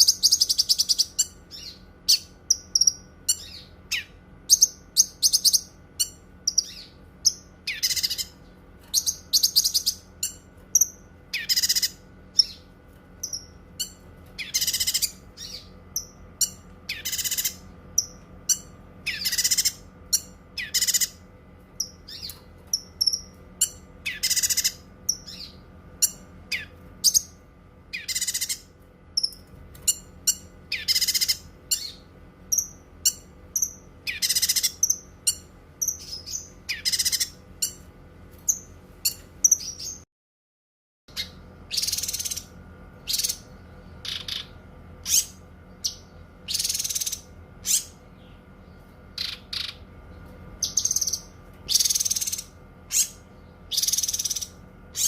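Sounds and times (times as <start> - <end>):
songbird singing: 0.0 - 37.9, 41.1 - 55.0
faint steady hum: 0.0 - 40.0, 41.1 - 55.0
high bird chirps: 0.0 - 40.0, 41.1 - 55.0.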